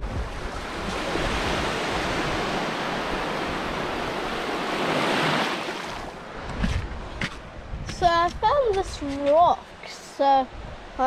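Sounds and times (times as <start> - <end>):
small waves breaking on beach: 0.0 - 11.0.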